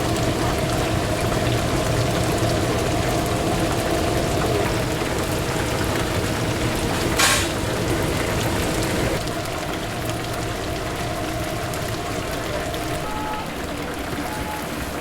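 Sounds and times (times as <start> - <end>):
oil sizzling deep-frying: 0.0 - 15.0.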